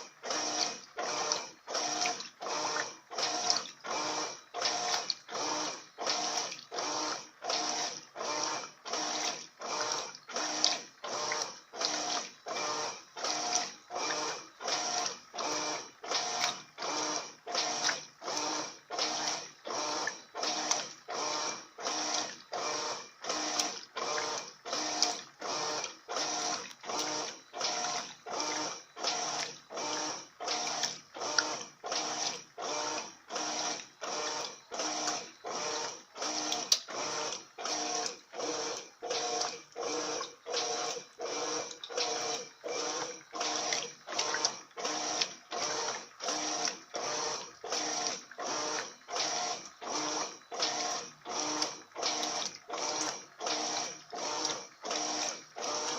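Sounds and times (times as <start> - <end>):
washing machine agitator churning: 0.0 - 55.9.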